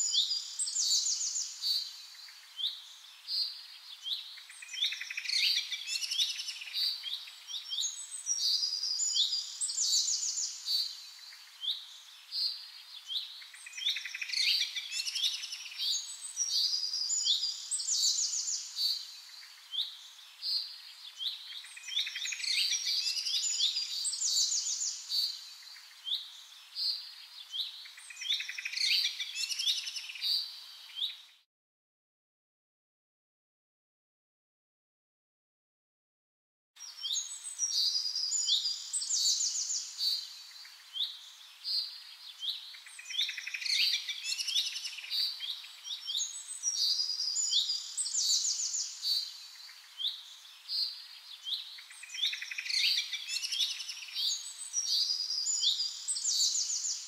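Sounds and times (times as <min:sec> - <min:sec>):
faint steady hiss: 0:00.0 - 0:31.4, 0:36.8 - 0:57.0
songbirds singing: 0:00.0 - 0:31.4, 0:36.8 - 0:57.0.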